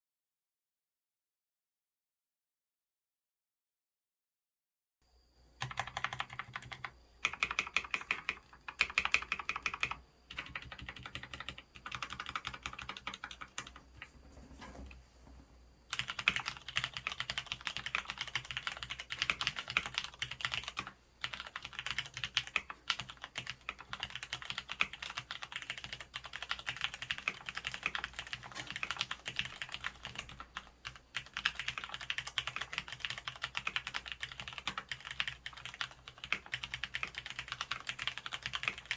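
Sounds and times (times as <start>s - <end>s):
mechanical keyboard typing: 5.6s - 14.1s, 15.9s - 38.9s.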